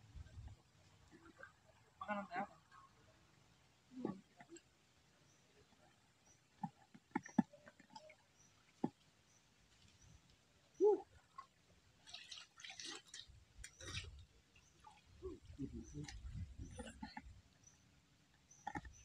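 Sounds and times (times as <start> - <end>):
water splashing and rustling: 0.0 - 19.0
water dripping: 0.1 - 19.0.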